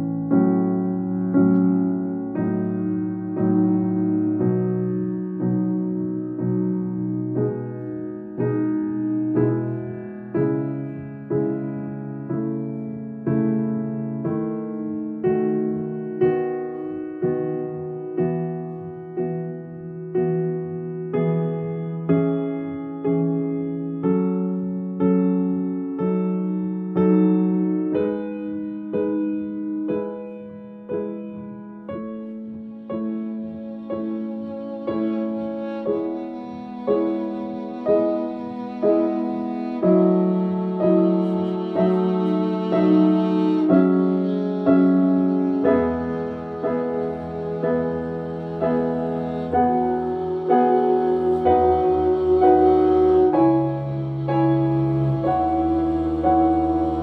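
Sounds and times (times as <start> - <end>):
gentle piano chords: 0.0 - 57.0.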